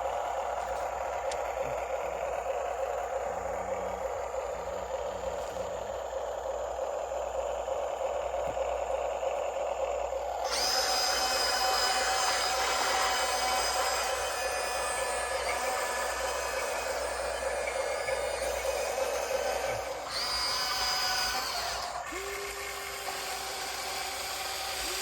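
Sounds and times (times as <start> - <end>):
high-pitched whine: 0.0 - 25.0
model excavator motor hum: 0.0 - 25.0.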